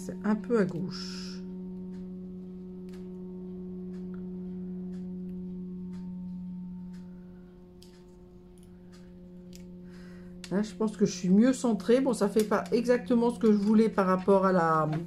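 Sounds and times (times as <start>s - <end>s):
low hum with overtones: 0.0s - 15.0s.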